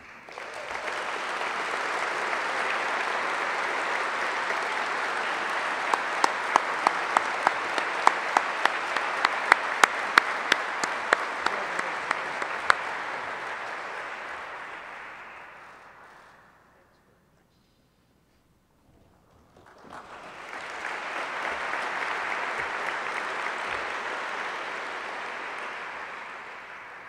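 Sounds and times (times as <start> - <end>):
person clapping nearby: 0.0 - 16.4, 19.5 - 27.0
audience applauding: 0.0 - 16.7, 19.5 - 27.0.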